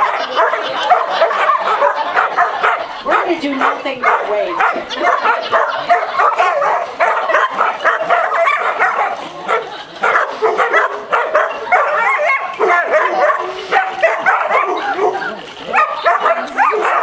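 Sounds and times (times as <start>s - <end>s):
dog barking and yipping: 0.0s - 17.0s.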